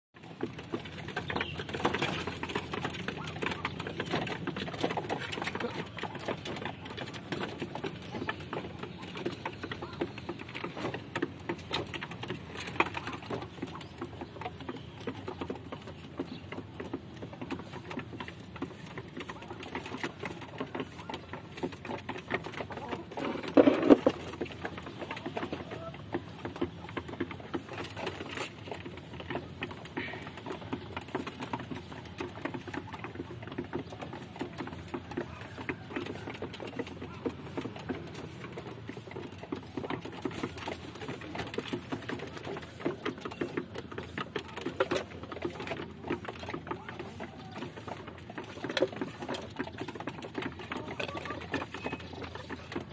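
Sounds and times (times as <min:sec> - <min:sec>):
pigeons pecking on metal roof: 0:00.2 - 0:52.9.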